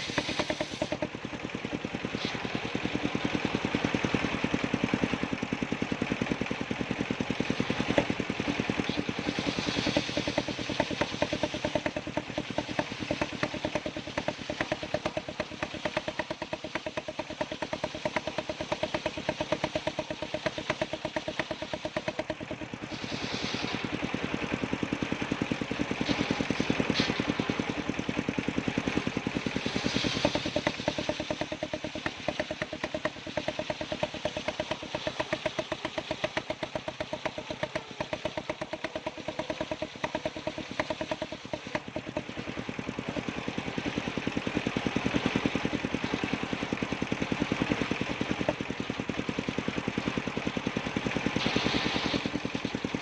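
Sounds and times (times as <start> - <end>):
saw blade cutting wood: 0.0 - 5.3, 6.6 - 28.2, 28.8 - 48.6, 51.2 - 52.7
sawmill engine running: 0.0 - 53.0.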